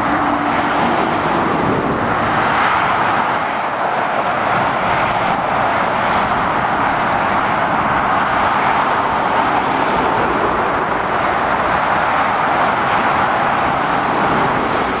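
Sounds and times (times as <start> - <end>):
motorway traffic rushing: 0.0 - 15.0.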